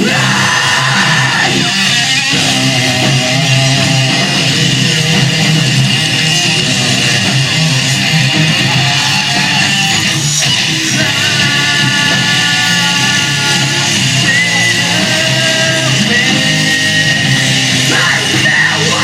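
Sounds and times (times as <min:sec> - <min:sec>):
distorted electric guitars: 0:00.0 - 0:19.0
heavy metal band playing: 0:00.0 - 0:19.0.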